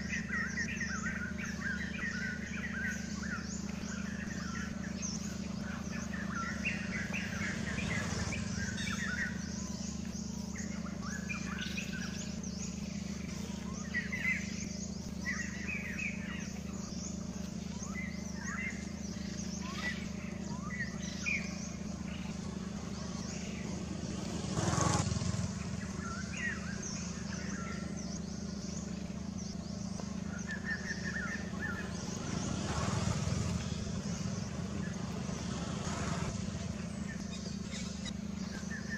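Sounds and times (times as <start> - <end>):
birds chirping: 0.0 - 38.9
low hum: 0.0 - 38.9.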